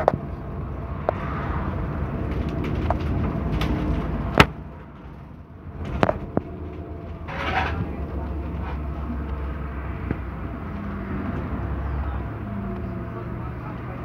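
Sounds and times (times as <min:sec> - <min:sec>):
bus body rattles: 0:00.0 - 0:14.0
bus engine drone: 0:00.0 - 0:14.0.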